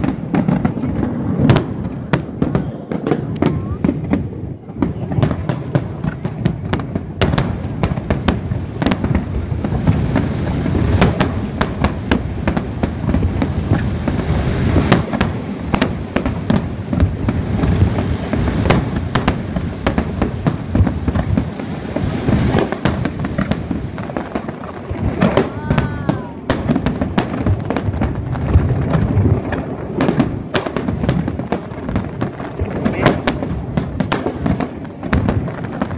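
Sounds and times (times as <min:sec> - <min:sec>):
fireworks booming: 0:00.0 - 0:35.9
fireworks cracks and pops: 0:00.0 - 0:35.9.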